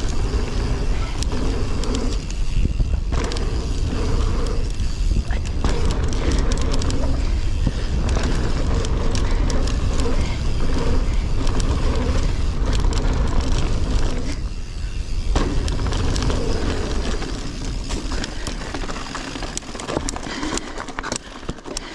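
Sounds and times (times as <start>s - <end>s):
wind noise on camera: 0.0s - 20.3s
bike clicks and rattles: 0.0s - 21.9s
bike tyres rolling on dirt: 0.0s - 21.9s.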